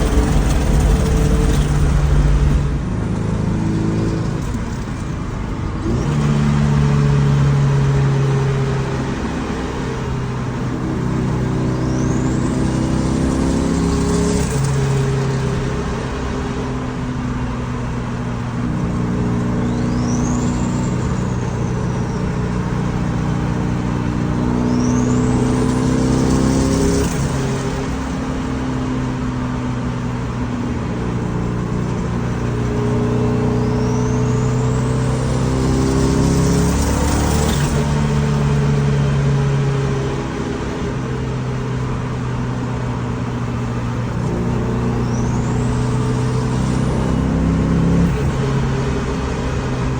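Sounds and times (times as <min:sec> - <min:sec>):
car engine pulling hard: 0:00.0 - 0:49.9.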